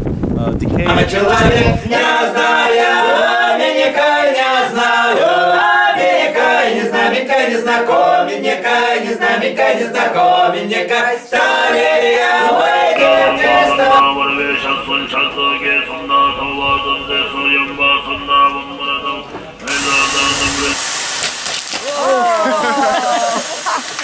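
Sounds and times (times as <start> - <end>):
group singing unaccompanied: 0.8 - 20.8.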